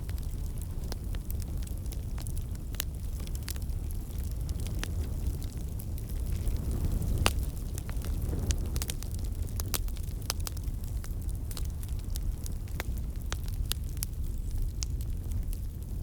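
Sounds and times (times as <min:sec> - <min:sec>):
fire pops and snaps: 0:00.0 - 0:16.0
fire rumbling: 0:00.0 - 0:16.0.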